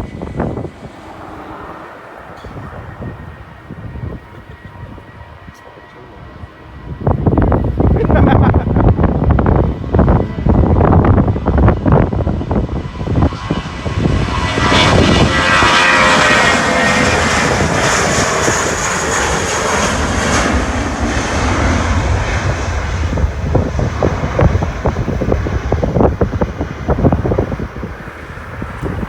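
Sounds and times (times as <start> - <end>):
jet airliner taking off: 0.0 - 29.0.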